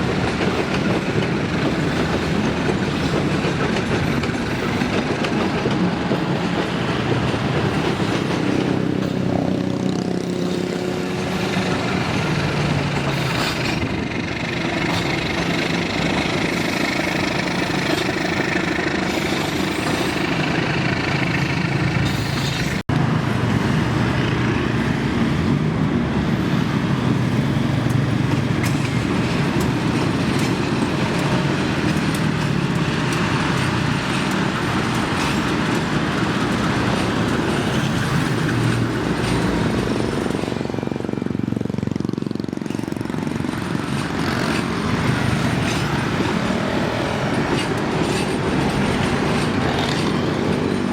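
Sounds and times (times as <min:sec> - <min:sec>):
train running on tracks: 0:00.0 - 0:50.9.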